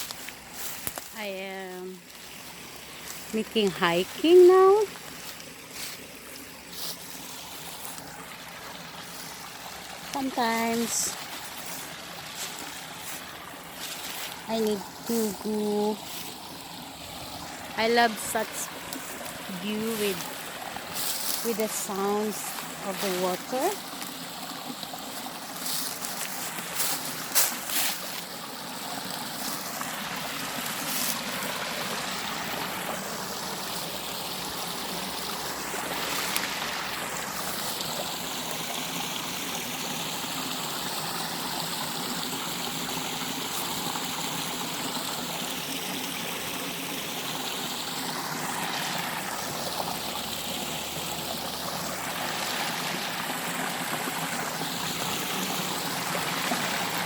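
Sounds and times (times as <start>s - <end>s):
stream of water rushing: 0.0s - 57.0s.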